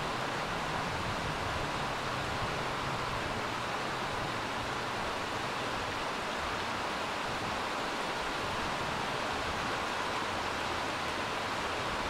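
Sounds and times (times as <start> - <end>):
torrential rain: 0.0 - 12.0.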